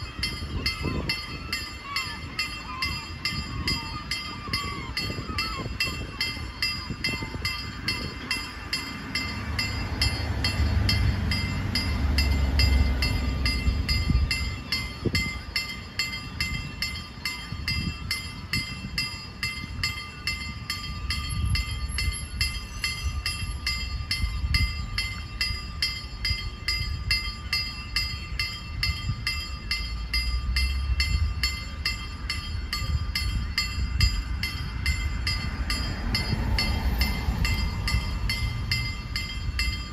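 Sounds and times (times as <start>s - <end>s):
level crossing warning bell: 0.0s - 39.9s
passing train rumble: 0.0s - 39.9s.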